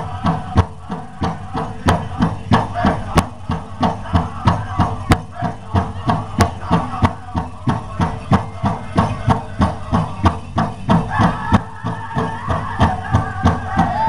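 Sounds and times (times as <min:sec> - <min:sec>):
large drum beating: 0:00.0 - 0:14.0
voices singing: 0:00.0 - 0:14.0.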